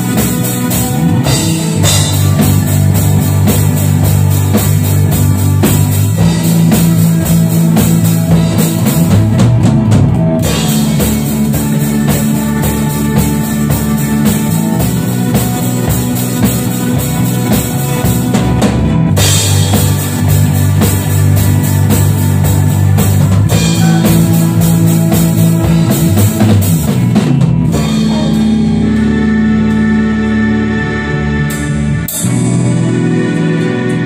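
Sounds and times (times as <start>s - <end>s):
drum kit played with sticks: 0.0s - 34.0s
rock backing track: 0.0s - 34.0s.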